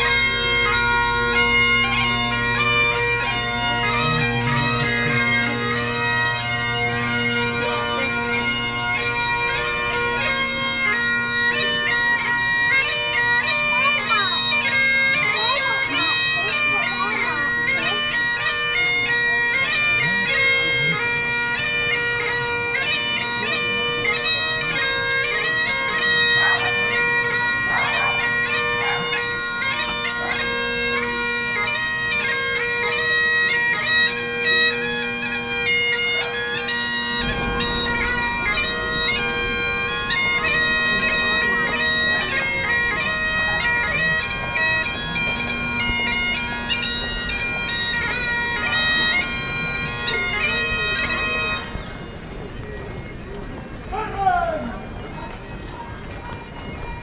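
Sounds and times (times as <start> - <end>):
bagpipes playing: 0.0 - 57.0.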